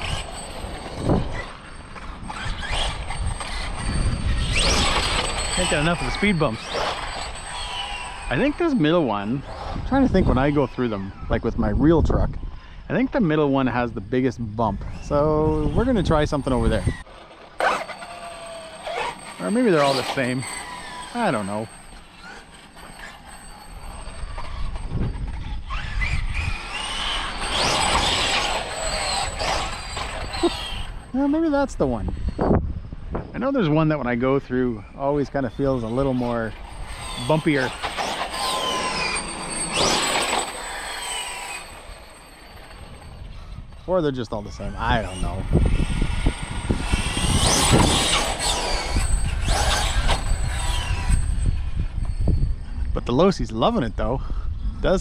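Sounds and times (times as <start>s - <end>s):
tyres rumbling: 0.0s - 10.9s, 12.9s - 54.1s
rc truck motor whine: 0.0s - 55.0s.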